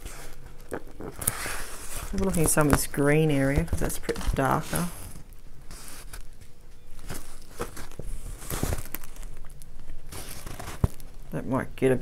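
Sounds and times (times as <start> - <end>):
canvas and plastic film crinkling: 0.0 - 11.4.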